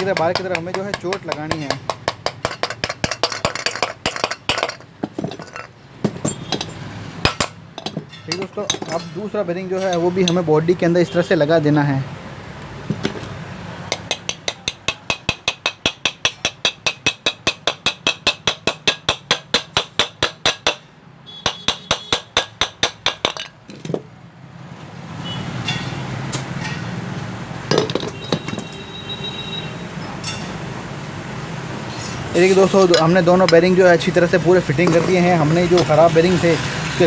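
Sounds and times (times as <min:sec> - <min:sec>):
steady background noise: 0:00.0 - 0:37.0.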